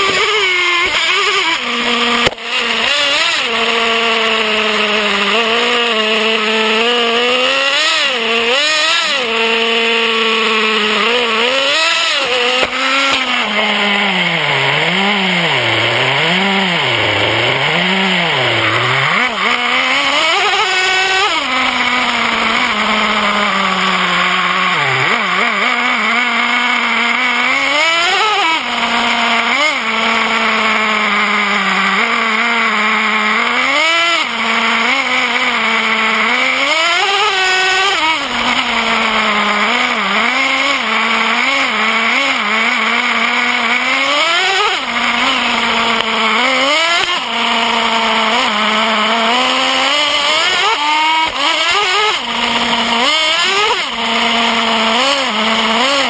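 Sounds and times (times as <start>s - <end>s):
model truck engine revving: 0.0s - 56.0s.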